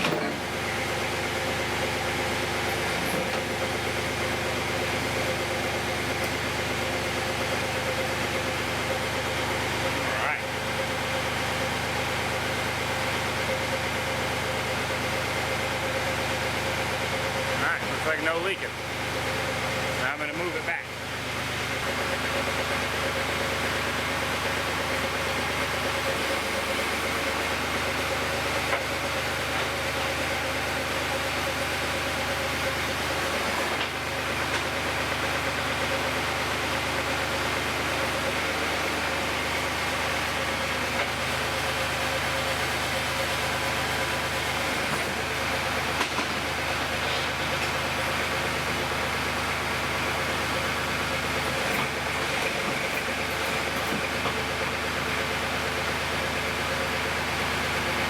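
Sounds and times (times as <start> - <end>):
backhoe engine idling: 0.0 - 58.0.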